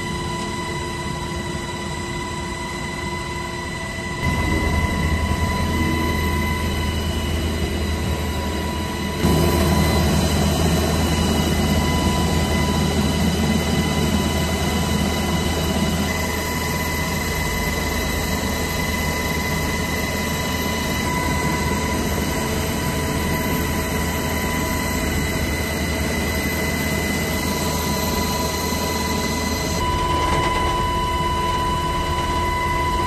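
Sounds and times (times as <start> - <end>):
helicopter engines and rotor: 0.0 - 33.0.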